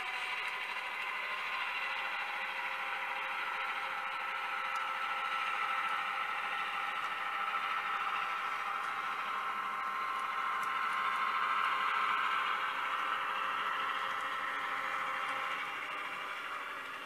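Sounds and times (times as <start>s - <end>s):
model train whirring: 0.0s - 17.0s.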